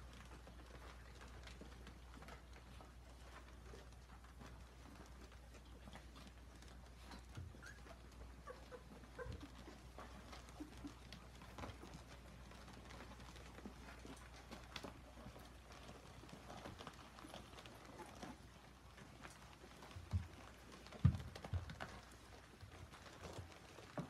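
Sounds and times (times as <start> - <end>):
dogs shuffling on wooden floor: 0.0 - 24.0.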